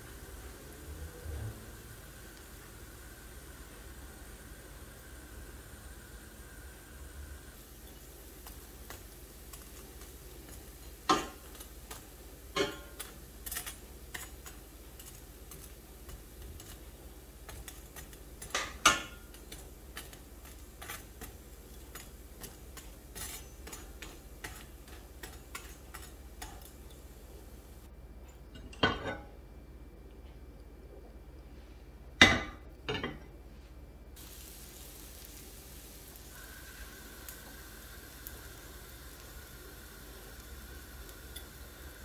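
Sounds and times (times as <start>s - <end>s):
frying crackle: 0.0s - 27.9s, 34.2s - 42.0s.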